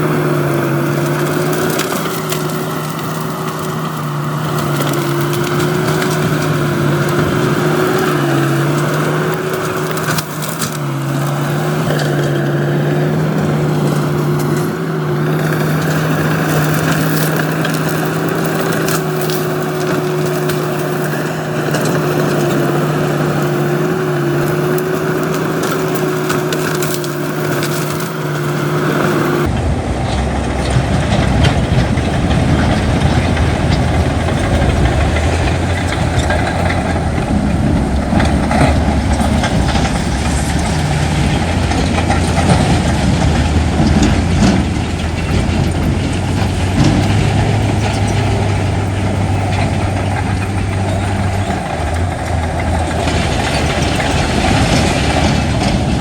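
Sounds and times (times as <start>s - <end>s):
heavy diesel machinery running: 0.0s - 56.0s
stone and soil crunching: 0.0s - 56.0s.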